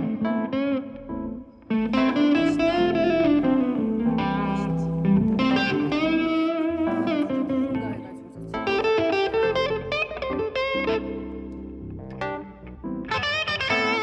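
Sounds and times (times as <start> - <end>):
electric guitar lead with bent notes: 0.0 - 14.0.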